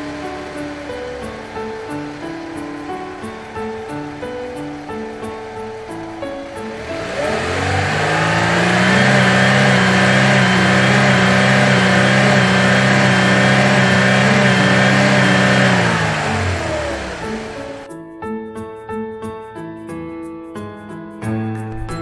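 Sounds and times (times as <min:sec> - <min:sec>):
vehicle engine revving: 0:00.0 - 0:17.9.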